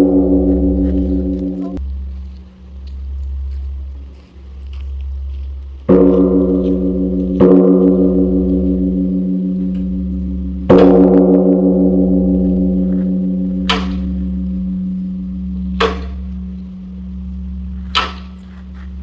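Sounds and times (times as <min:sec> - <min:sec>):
gong ringing: 0:00.0 - 0:19.0
low hum: 0:00.0 - 0:19.0.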